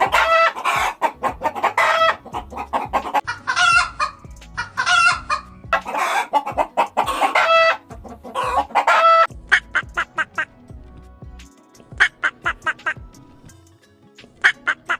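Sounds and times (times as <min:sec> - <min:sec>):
chickens clucking: 0:00.0 - 0:10.5, 0:12.0 - 0:13.0, 0:14.4 - 0:14.9.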